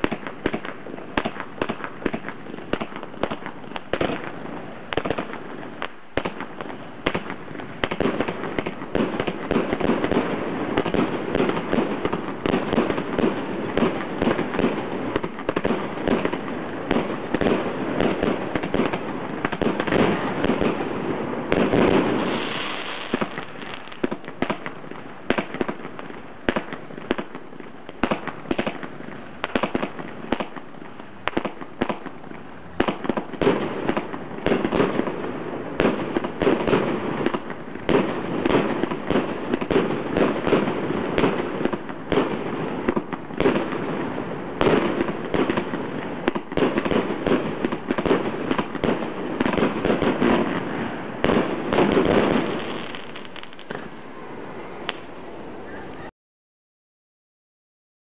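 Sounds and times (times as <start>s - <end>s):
fireworks bangs and pops: 0.0s - 54.0s
fireworks crackling: 0.0s - 56.1s.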